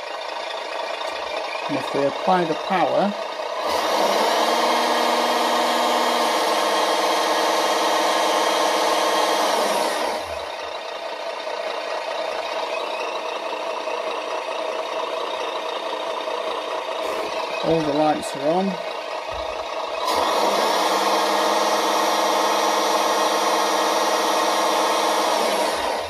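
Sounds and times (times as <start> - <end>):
simulated diesel engine from speaker: 0.0 - 26.0.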